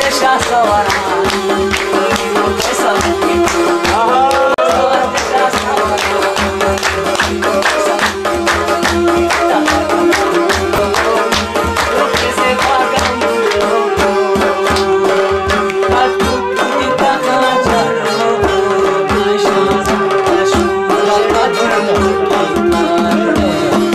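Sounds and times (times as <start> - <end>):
hand drum beat: 0.0 - 23.9
harmonium: 0.0 - 23.9
man singing: 0.0 - 23.9.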